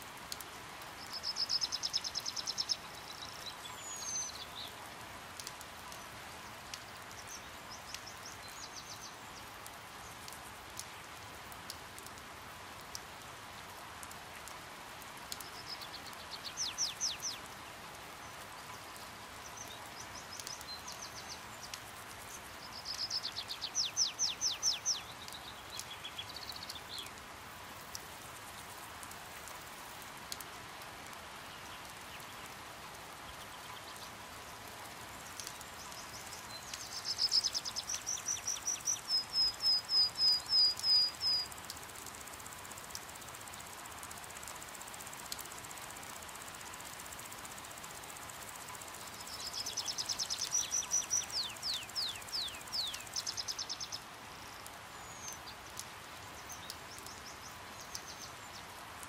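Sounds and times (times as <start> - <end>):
light rain pattering: 0.0 - 59.0.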